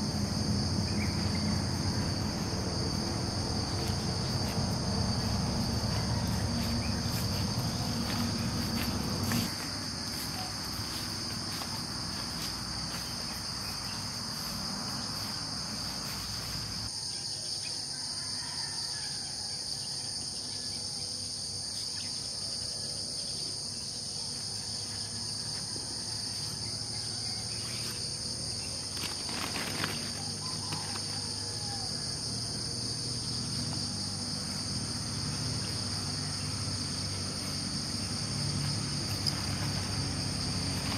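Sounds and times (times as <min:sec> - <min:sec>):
crickets chirring: 0:00.0 - 0:40.9
high-pitched insect: 0:00.0 - 0:40.9.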